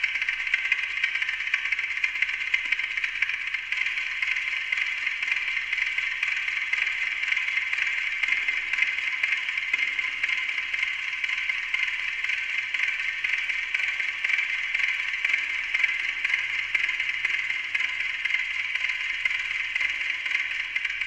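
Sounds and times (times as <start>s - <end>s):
clock ticking with delay echoes: 0.0s - 21.0s.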